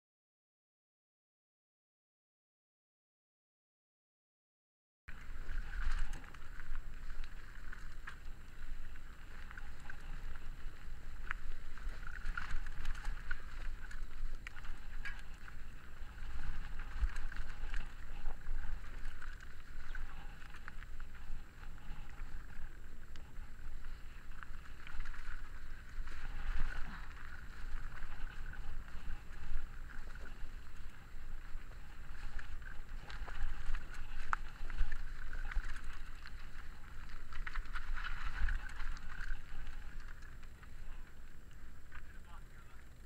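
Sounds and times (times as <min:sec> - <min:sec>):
bike frame and chain rattling: 0:05.1 - 0:41.7
bike tyres on loose stones: 0:05.1 - 0:43.0
wind rumble on microphone: 0:05.1 - 0:43.0.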